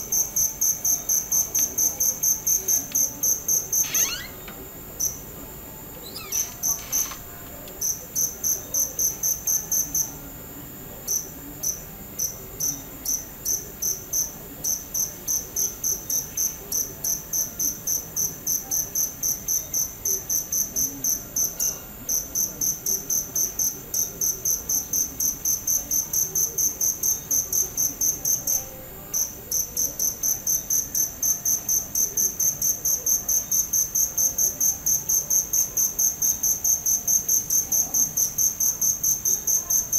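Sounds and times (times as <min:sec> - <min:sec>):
cricket chirping: 0:00.0 - 0:10.4, 0:11.0 - 0:39.9.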